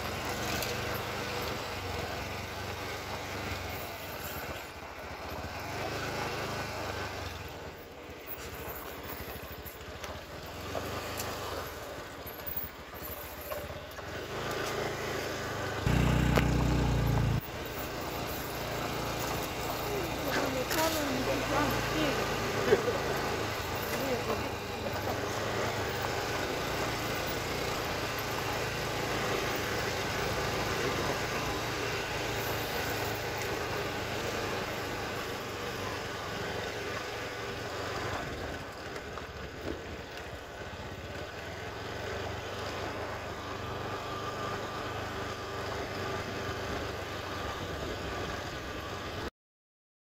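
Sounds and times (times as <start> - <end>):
motorcycle engine: 0.0 - 49.3.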